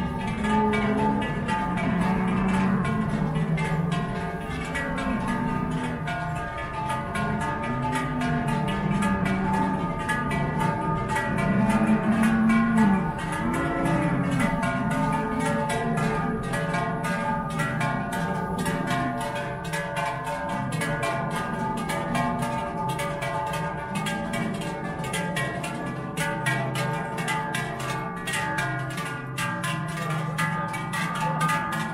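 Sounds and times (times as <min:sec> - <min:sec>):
cowbells clanging: 0:00.0 - 0:31.9.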